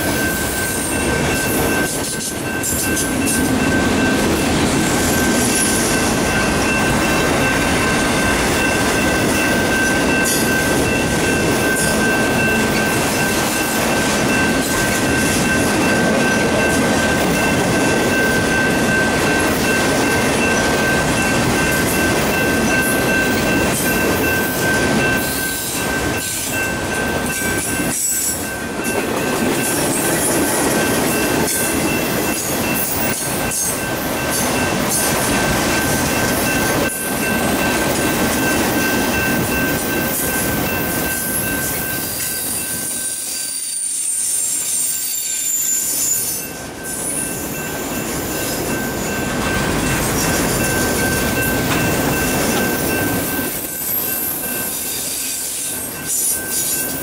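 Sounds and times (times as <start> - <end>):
steady high-pitched tone: 0.0 - 45.3, 46.2 - 57.0
steel wheels rumbling on rail: 0.0 - 57.0.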